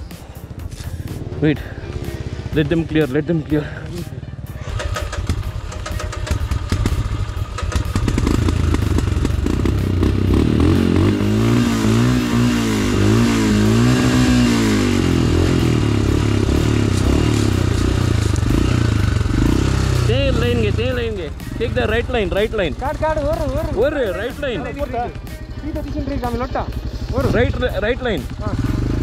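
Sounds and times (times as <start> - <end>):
motorcycle engine revving: 0.5 - 29.0.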